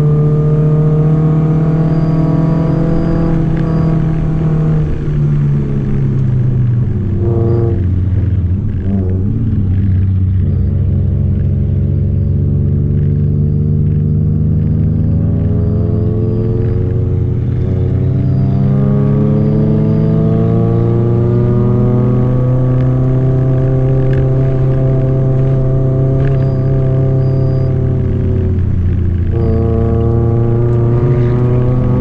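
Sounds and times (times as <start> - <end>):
car engine revving in cabin: 0.0 - 32.0.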